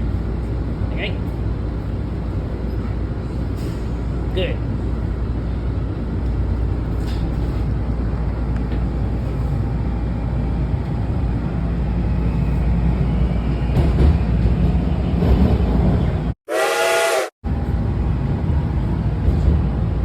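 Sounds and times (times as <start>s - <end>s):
train rumbling in motion: 0.0s - 16.4s, 17.4s - 20.0s.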